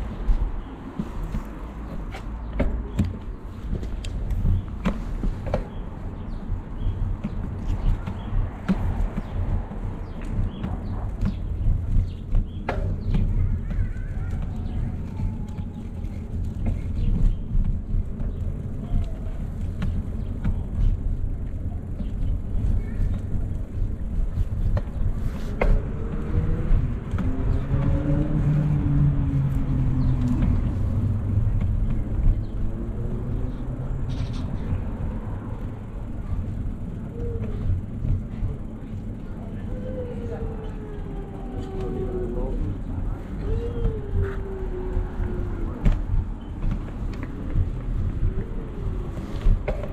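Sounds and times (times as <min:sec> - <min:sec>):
bicycle rolling noise: 0:00.0 - 0:49.9
wind and road rumble: 0:00.0 - 0:49.9.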